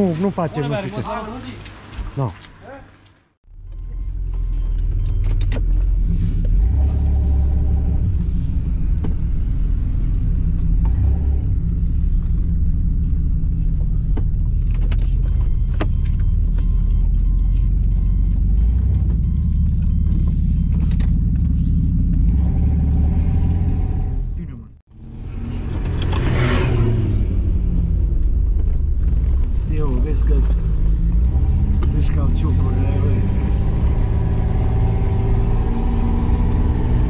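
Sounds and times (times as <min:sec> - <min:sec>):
vehicle engine rumbling: 0:02.9 - 0:37.0.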